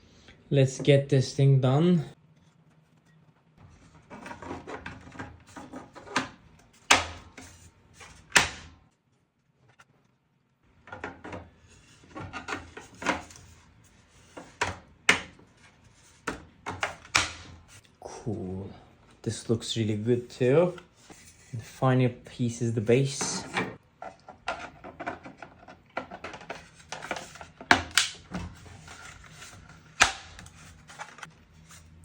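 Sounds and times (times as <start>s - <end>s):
plastic parts rubbing and scraping: 2.2s - 10.1s, 10.8s - 17.9s, 19.8s - 21.9s, 22.6s - 32.0s.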